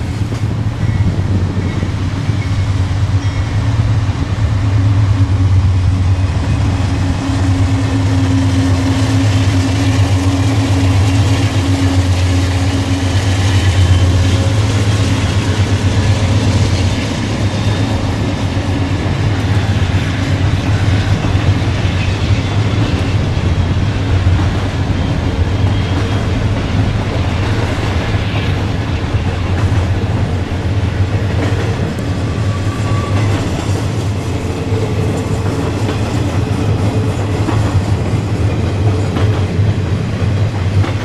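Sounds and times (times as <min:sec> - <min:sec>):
freight cars rolling on rails: 0:00.0 - 0:41.0
locomotive engine rumble: 0:00.0 - 0:41.0.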